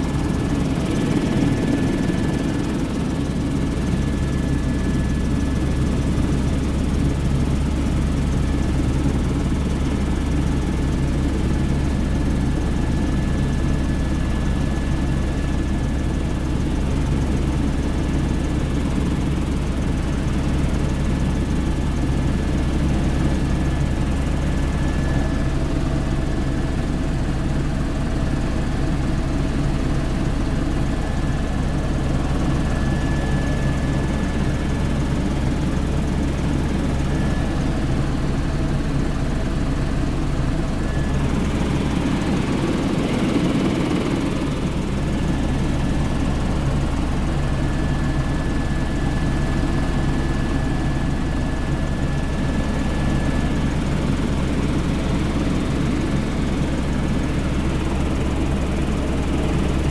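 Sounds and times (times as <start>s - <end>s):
helicopter rotor and engine drone: 0.0s - 59.9s.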